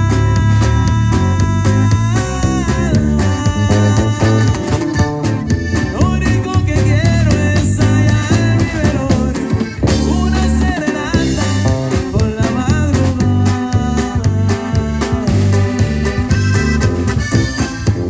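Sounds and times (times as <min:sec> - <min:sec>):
button accordion: 0:00.0 - 0:12.5, 0:13.4 - 0:18.0
bass guitar: 0:00.0 - 0:18.0
drum kit: 0:00.0 - 0:18.0
electric guitar: 0:00.0 - 0:18.0.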